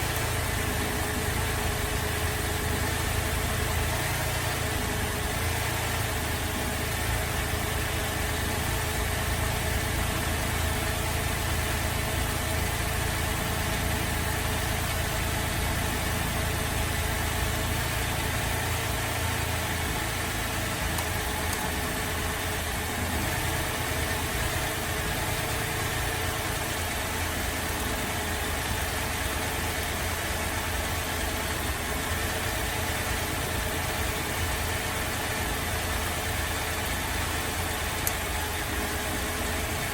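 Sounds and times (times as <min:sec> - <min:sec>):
car engine idling roughly: 0:00.0 - 0:39.9.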